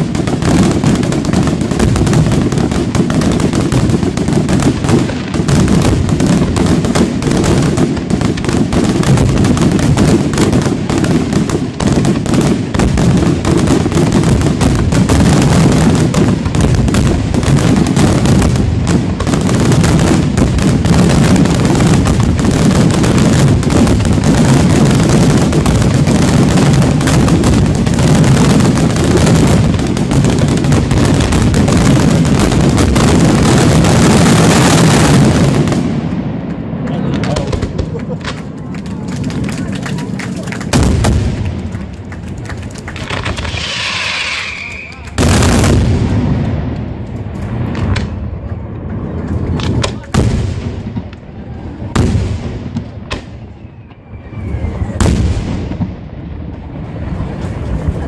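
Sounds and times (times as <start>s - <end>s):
fireworks bursting in rumbling barrage: 0.0s - 58.0s.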